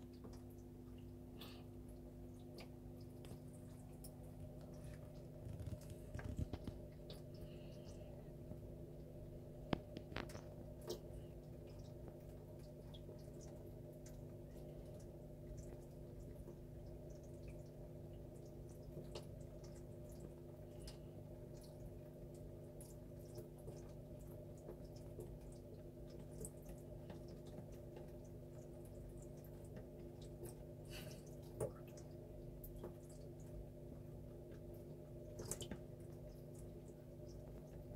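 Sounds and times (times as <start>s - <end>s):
low hum: 0.0s - 37.9s
faint ticks and taps: 1.9s - 33.7s.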